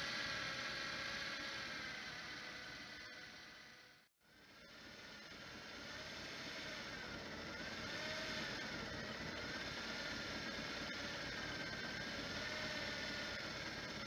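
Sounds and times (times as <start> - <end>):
electric fishing reel motor whining: 0.0 - 14.0.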